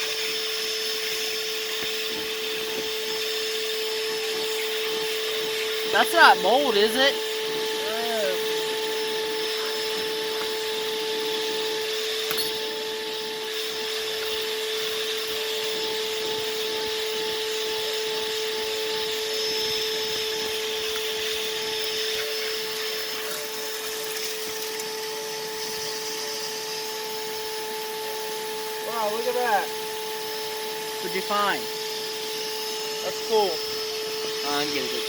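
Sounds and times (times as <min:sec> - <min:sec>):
vacuum cleaner whining: 0:00.0 - 0:35.0.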